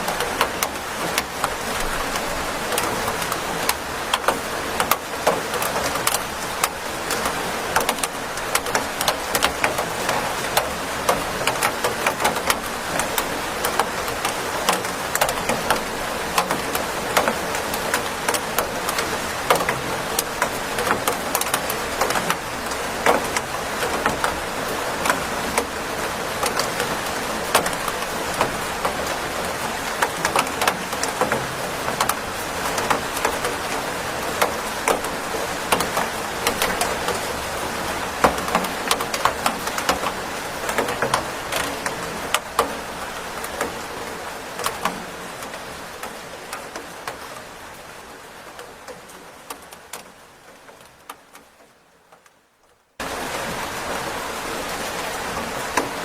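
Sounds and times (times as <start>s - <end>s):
rain falling: 0.0s - 56.0s
raindrops clicking on surface: 0.0s - 56.0s.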